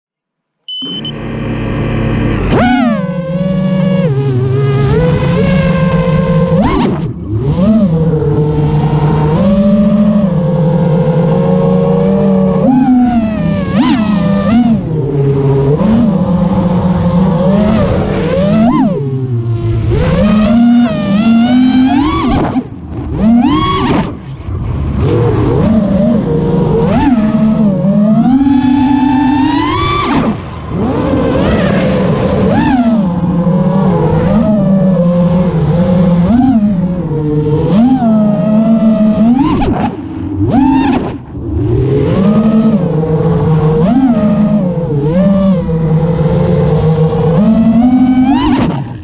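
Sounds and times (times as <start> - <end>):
quadcopter motors whining: 0.7 - 49.0.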